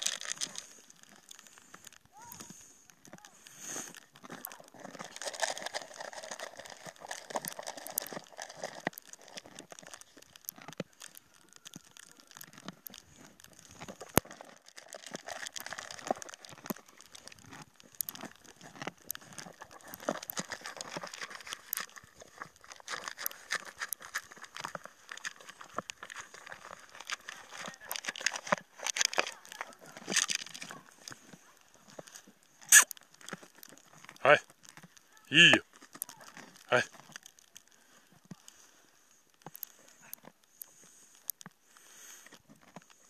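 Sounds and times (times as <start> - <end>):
horse crunching feed: 0.0 - 43.0.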